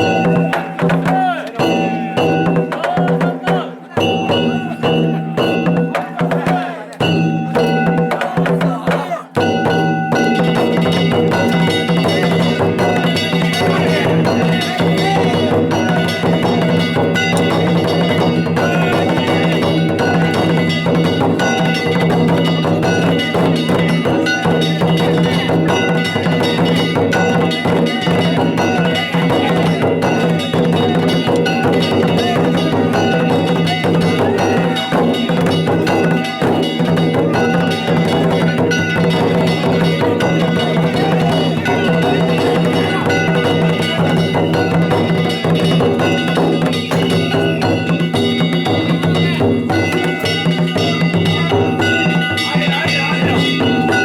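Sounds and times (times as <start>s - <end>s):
drums: 0.0s - 54.0s
small hand gongs ringing: 0.0s - 54.0s.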